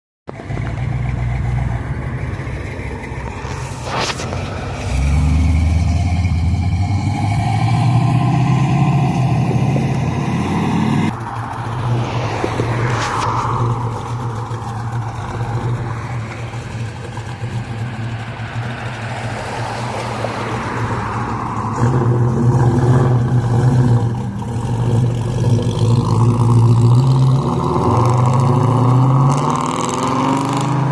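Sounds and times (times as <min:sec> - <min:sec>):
car engines revving: 0:00.3 - 0:30.9.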